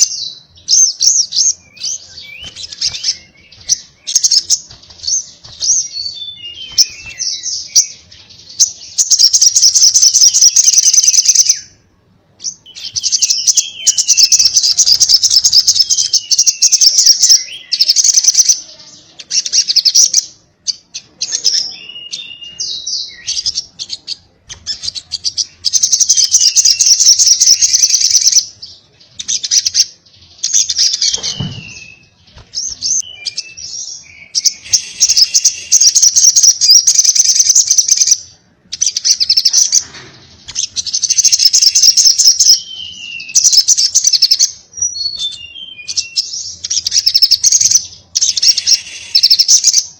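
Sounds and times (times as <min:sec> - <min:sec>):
sunbird singing fast high trills: 0:00.0 - 0:11.8, 0:12.4 - 0:49.9.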